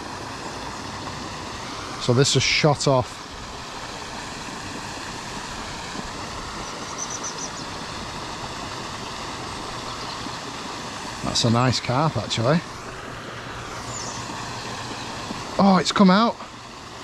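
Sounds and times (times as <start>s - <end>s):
aerator splashing water: 0.0s - 17.0s.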